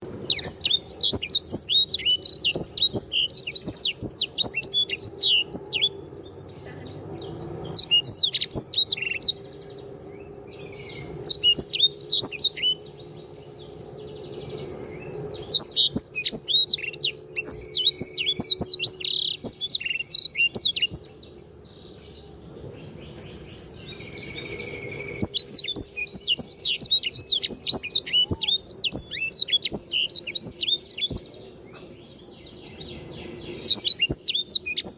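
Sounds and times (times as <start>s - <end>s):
songbird twittering: 0.0s - 34.9s.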